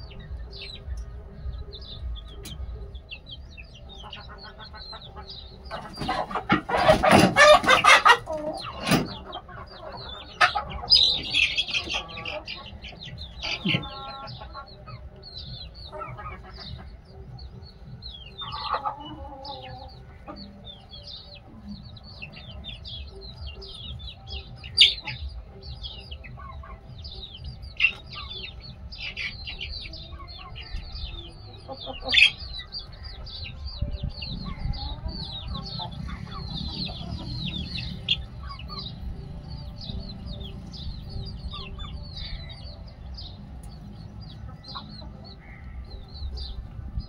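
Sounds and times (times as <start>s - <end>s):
chickens clucking: 0.0s - 47.0s
chicks peeping: 0.0s - 47.0s.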